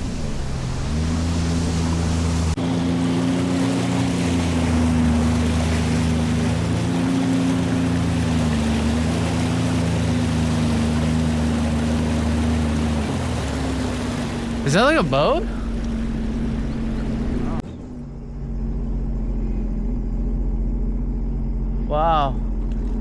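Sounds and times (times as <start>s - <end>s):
water rushing past hull: 0.0s - 19.5s
personal watercraft engine running: 0.0s - 23.0s.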